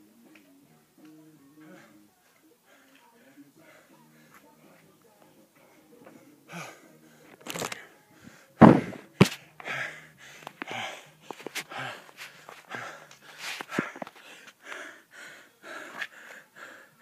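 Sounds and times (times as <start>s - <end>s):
man panting hard: 1.6s - 4.9s, 5.5s - 17.0s.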